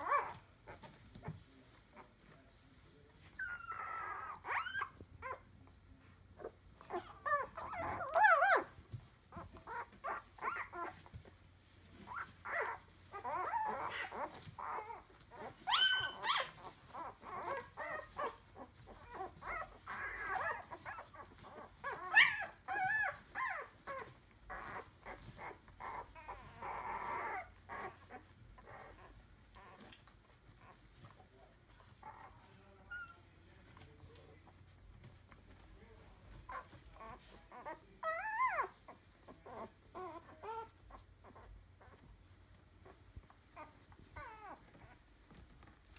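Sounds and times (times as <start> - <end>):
puppies whimpering: 0.0 - 2.3, 3.2 - 45.9.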